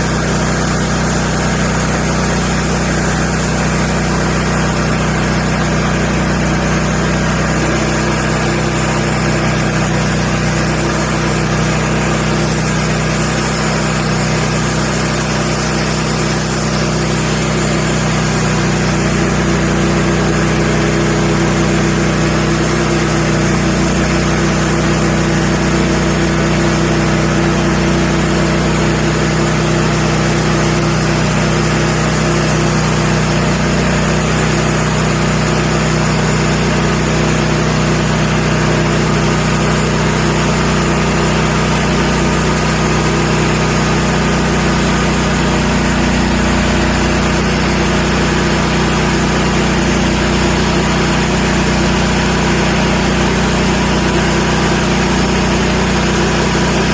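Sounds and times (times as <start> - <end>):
band sawmill cutting log: 0.0 - 56.9.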